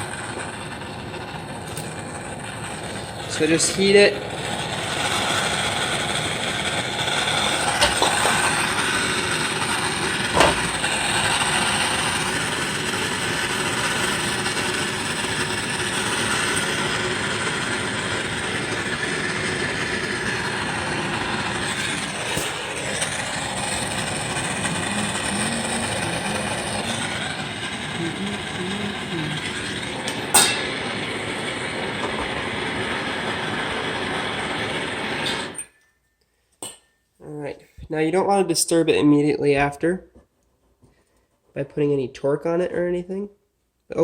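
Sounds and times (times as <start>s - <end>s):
gas torch flame hissing: 0.0s - 35.7s.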